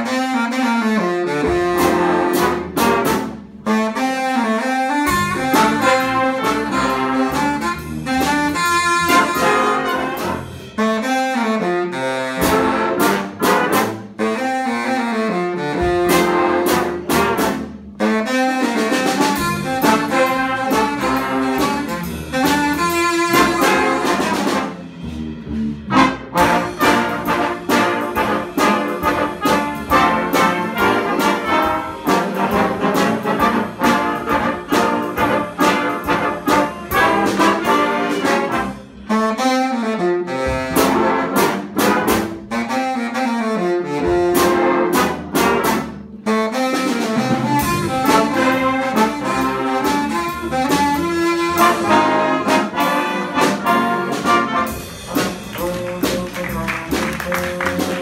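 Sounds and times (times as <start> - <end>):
big band playing jazz: 0.0 - 58.0.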